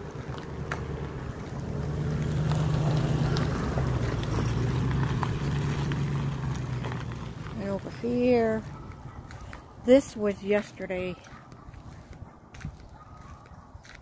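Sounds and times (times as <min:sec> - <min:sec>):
footsteps on gravel: 0:00.0 - 0:14.0
low engine hum: 0:00.0 - 0:14.0.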